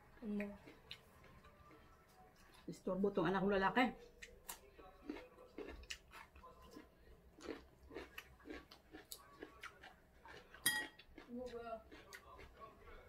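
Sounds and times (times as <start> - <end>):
person chewing food: 0.0 - 2.6, 4.1 - 13.0.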